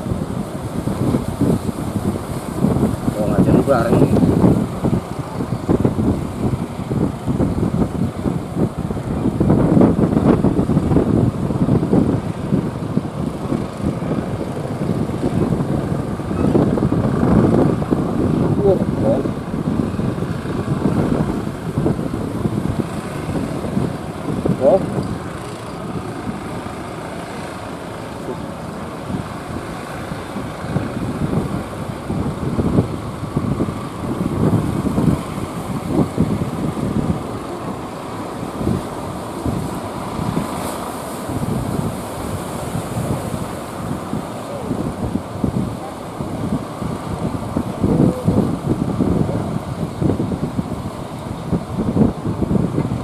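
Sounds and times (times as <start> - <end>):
boat engines running: 0.0 - 53.0
wind buffeting microphone: 0.0 - 53.0.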